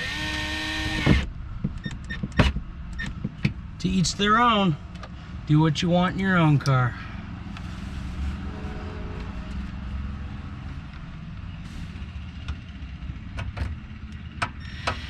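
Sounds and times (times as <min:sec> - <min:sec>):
steady low rumble: 0:00.6 - 0:14.4.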